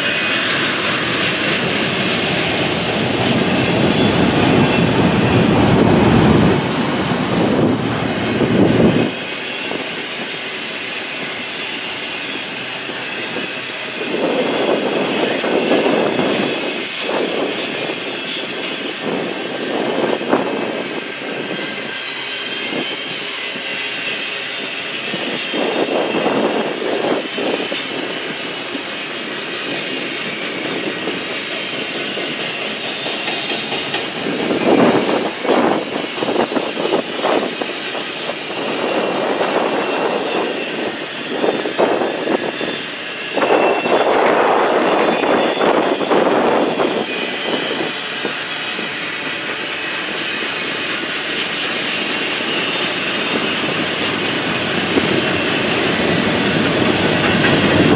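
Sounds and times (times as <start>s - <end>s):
train wheels rumbling and clattering: 0.0s - 57.9s.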